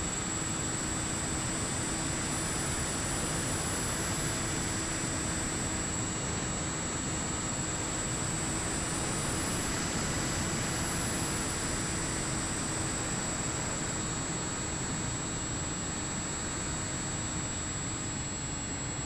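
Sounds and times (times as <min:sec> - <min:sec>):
model plane propeller and wind: 0:00.0 - 0:19.0.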